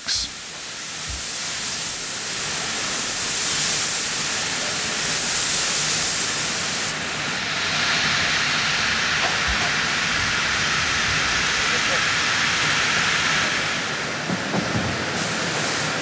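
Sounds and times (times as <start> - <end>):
spray gun hissing: 0.0 - 14.1, 14.9 - 16.0.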